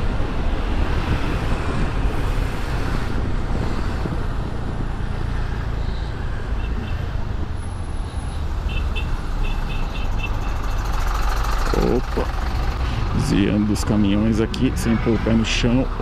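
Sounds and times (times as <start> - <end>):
trucks and buses rumbling: 0.0 - 16.0.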